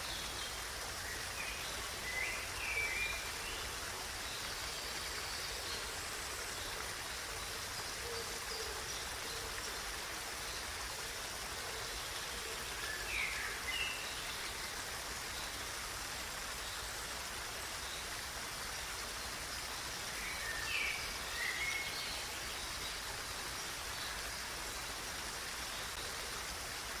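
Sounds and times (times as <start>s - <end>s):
flowing water rushing: 0.0s - 27.0s.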